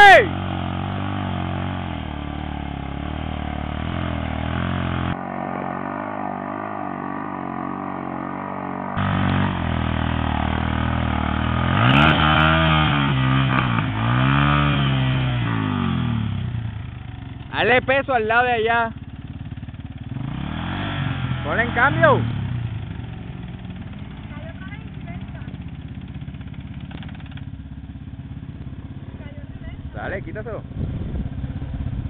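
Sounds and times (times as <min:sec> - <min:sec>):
quad engine revving: 0:00.0 - 0:32.0.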